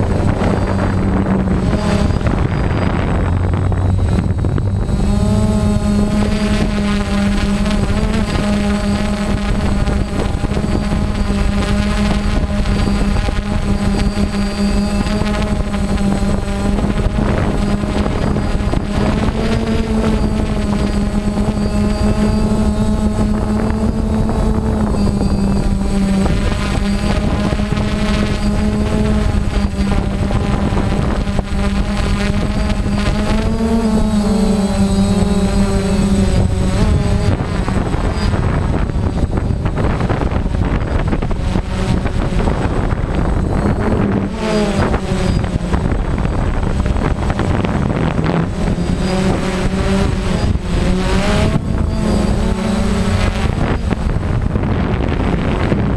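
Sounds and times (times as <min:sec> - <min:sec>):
drone motors buzzing: 0:00.0 - 0:55.9
wind rumble on microphone: 0:00.0 - 0:55.9.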